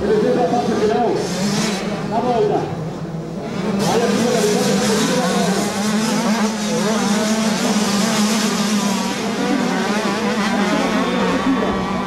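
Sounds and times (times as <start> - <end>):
minibike engines racing: 0.0 - 12.0.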